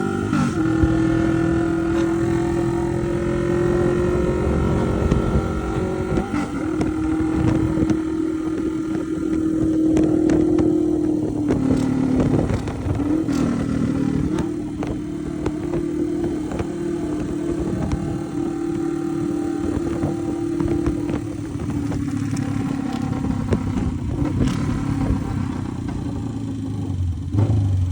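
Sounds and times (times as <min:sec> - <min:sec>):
vehicle engine humming: 0:00.0 - 0:27.9.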